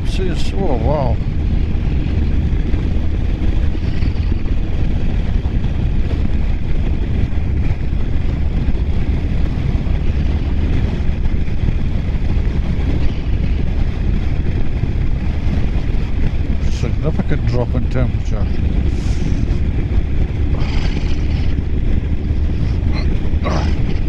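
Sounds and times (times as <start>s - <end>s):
motorcycle engine rumble: 0.0s - 24.0s
wind rush: 0.0s - 24.0s.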